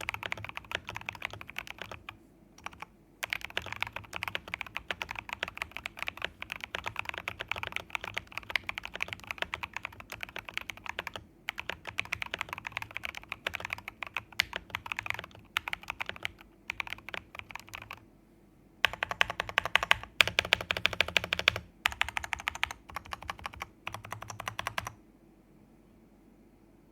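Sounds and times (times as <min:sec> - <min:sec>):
mechanical keyboard typing: 0:00.0 - 0:18.0, 0:18.8 - 0:25.0.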